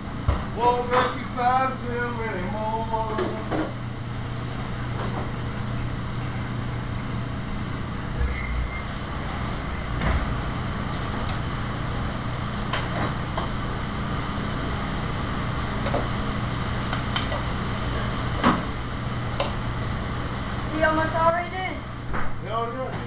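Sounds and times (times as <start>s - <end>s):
kitchen exhaust hood humming: 0.0s - 23.0s.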